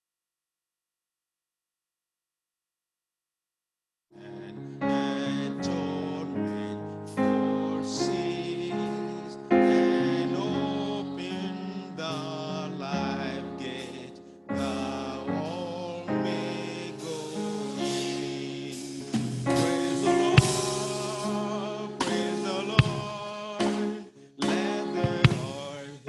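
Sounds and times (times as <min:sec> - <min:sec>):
keyboard playing gospel chords: 0:04.2 - 0:26.0.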